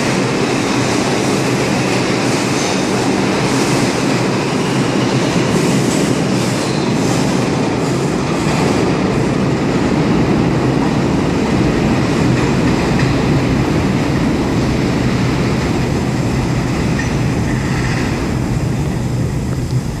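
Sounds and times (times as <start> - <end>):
train rumble and rattle: 0.0 - 20.0.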